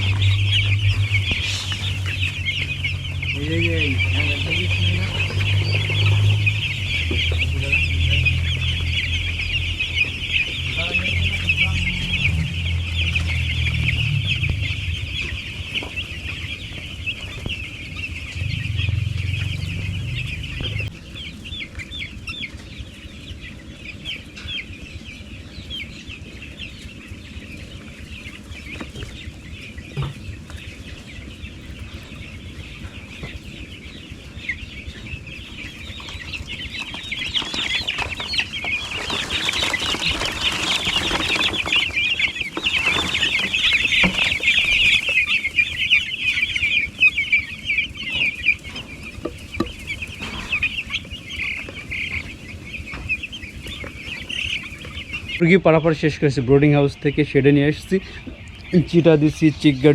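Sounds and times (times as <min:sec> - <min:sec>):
low rumble: 0:00.0 - 0:55.4
chicks peeping: 0:00.0 - 0:59.9.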